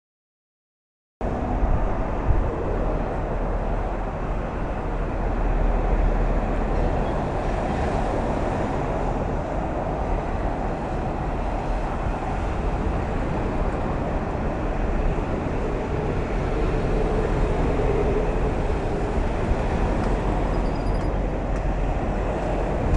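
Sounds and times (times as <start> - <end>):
highway traffic rumble and hiss: 1.2 - 22.9.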